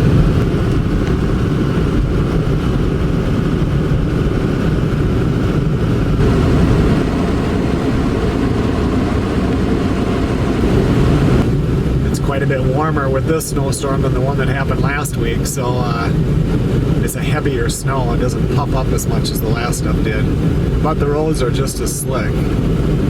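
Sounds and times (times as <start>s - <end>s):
vehicle engine and tyre noise: 0.0s - 21.3s.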